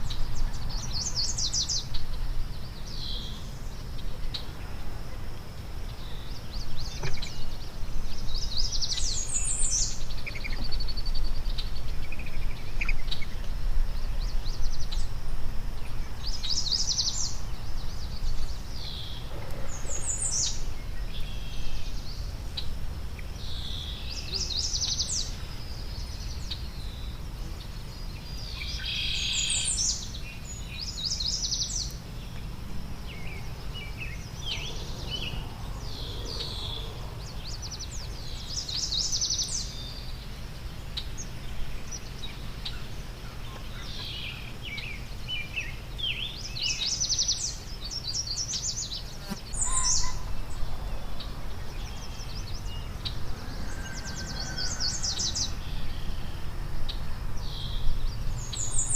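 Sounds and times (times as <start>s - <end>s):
songbirds singing: 0.0s - 58.9s.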